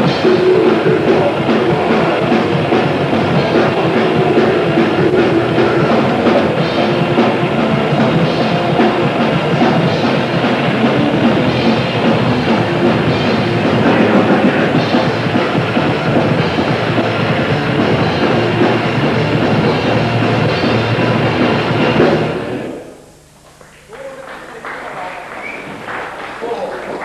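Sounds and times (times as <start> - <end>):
live grindcore band playing: 0.0 - 22.8.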